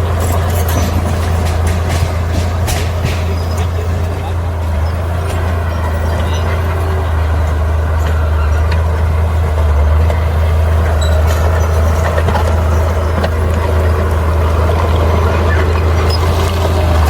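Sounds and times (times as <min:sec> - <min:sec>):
heavy diesel machinery engine drone: 0:00.0 - 0:17.0.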